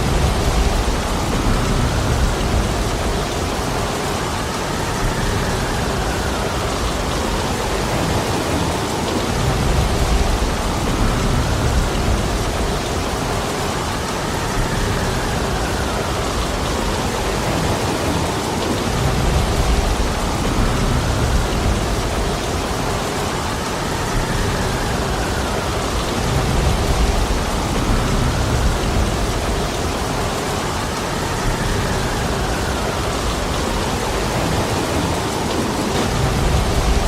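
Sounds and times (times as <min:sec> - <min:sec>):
heavy rain pouring: 0:00.0 - 0:37.0
strong wind gusting: 0:00.0 - 0:37.0.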